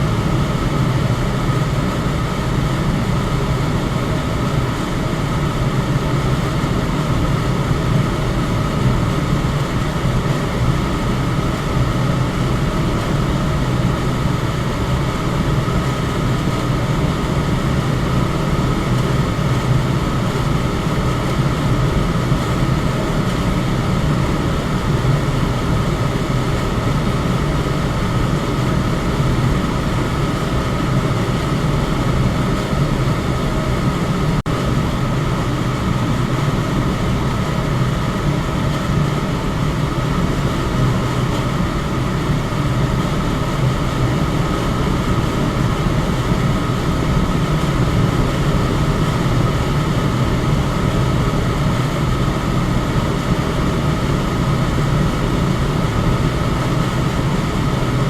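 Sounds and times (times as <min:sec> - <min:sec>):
electric fan whooshing: 0:00.0 - 0:58.0.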